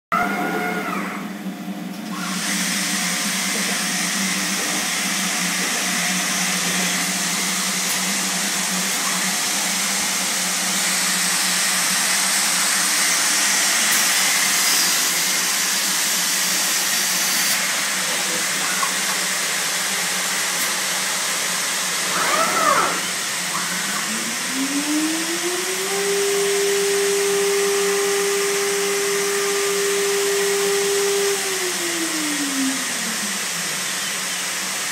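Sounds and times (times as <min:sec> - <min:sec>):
motor whine: 0:00.1 - 0:34.9
woodworking machine hiss and hum: 0:00.2 - 0:34.9.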